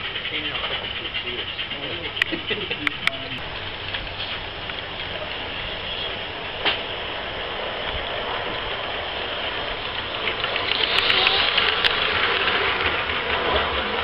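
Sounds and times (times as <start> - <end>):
model train clattering on rails: 0.0 - 14.0.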